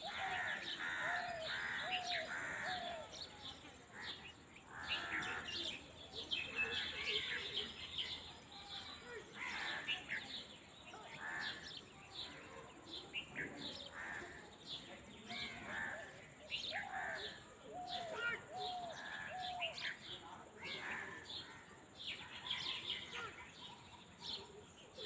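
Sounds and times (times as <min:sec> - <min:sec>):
birds chirping and cawing: 0:00.0 - 0:25.0.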